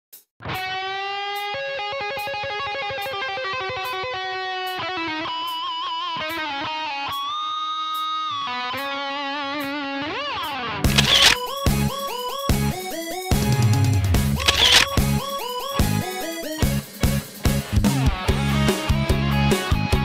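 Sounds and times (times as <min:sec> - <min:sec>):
electric guitar music: 0:00.4 - 0:20.0.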